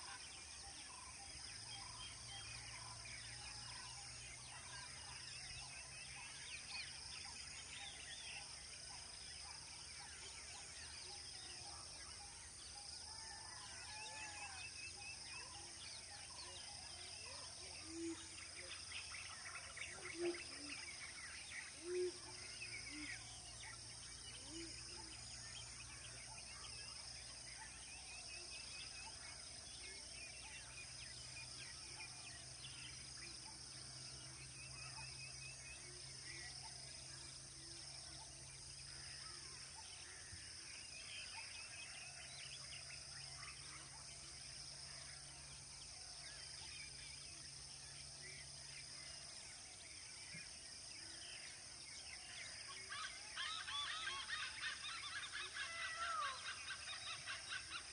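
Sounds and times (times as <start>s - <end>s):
birds chirping and trilling: 0.1s - 57.9s.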